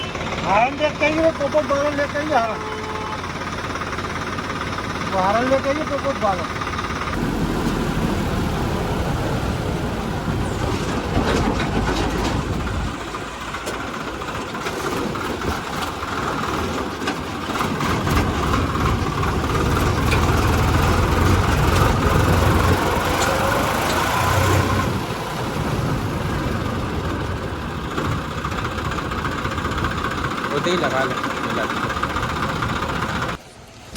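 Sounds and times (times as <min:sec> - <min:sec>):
tractor diesel engine running: 0:00.0 - 0:33.4.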